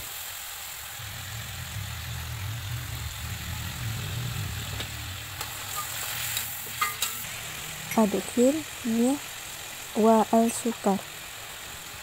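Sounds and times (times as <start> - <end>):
food sizzling in a wok: 0.0 - 12.0
low steady hum: 1.0 - 12.0.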